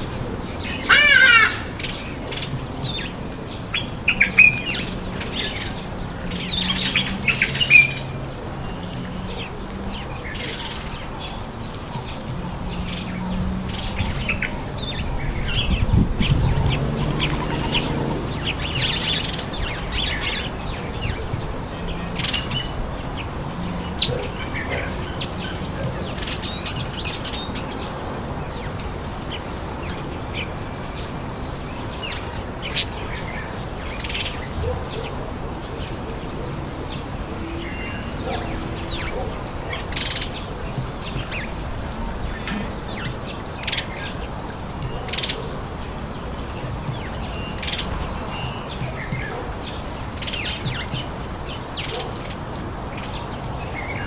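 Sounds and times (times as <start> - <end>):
garden birds chirping: 0.0 - 54.0.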